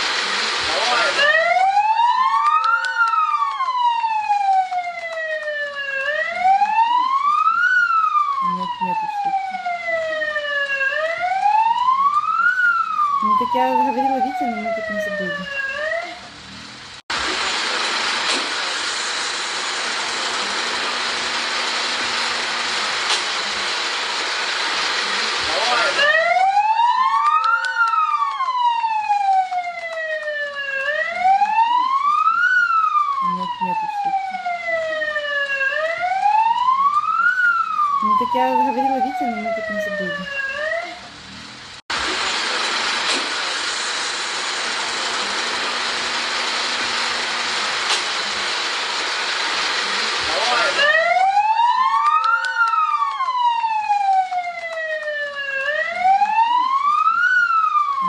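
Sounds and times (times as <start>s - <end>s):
siren wailing: 0.1s - 16.6s, 20.5s - 41.4s, 45.3s - 58.0s.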